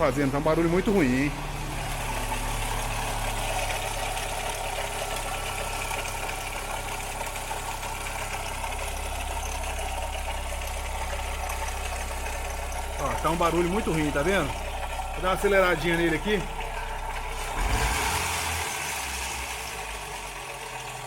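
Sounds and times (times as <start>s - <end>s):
car engine idling with bad noise: 0.0s - 21.0s.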